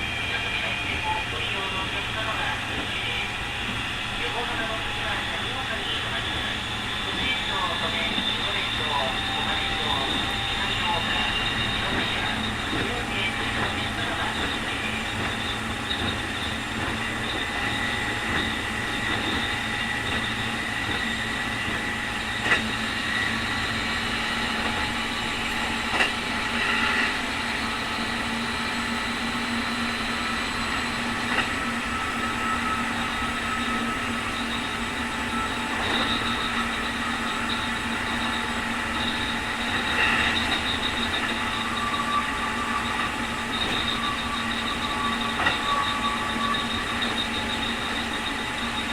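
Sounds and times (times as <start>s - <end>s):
electric train running: 0.0s - 48.9s
high motor whine: 0.0s - 48.9s
rail clacks: 6.0s - 48.9s.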